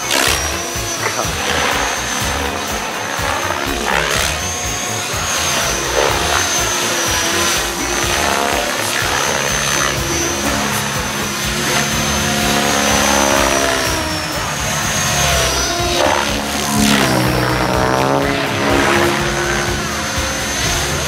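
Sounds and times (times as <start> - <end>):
helicopter rotor buzzing and whooshing: 0.0 - 21.0
high motor whine: 0.0 - 21.0.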